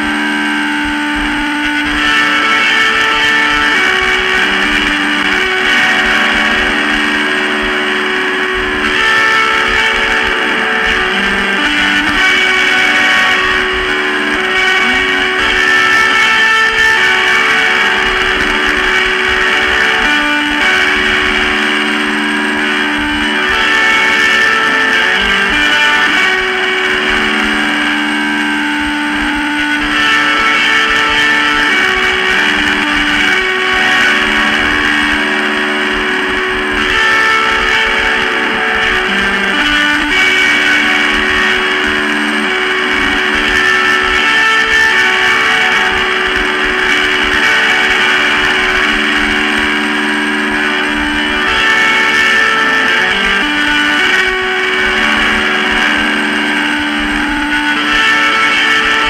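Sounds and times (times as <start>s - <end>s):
noise-rock guitar music: 0.0s - 59.0s.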